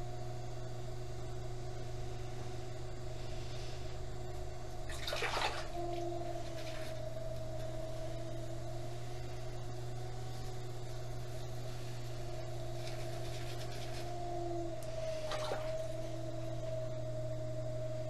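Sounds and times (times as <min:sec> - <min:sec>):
potter's wheel motor humming: 0:00.0 - 0:18.0.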